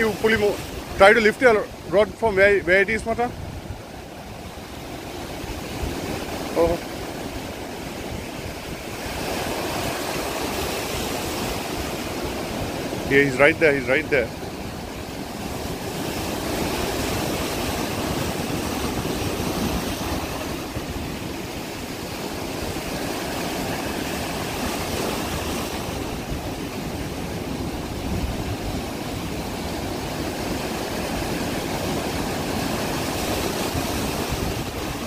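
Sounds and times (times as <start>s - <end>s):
ocean surf breaking: 0.0s - 35.0s
wind on microphone: 0.0s - 35.0s.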